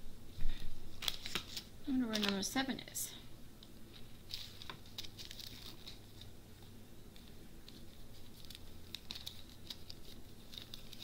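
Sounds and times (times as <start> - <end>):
plastic bags crinkling: 0.9 - 2.8, 3.9 - 11.0.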